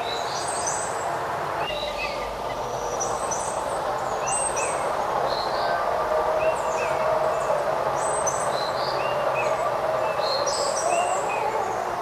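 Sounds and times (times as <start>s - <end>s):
outdoor background hiss: 0.0s - 12.0s
songbirds chirping and whistling: 0.0s - 12.0s.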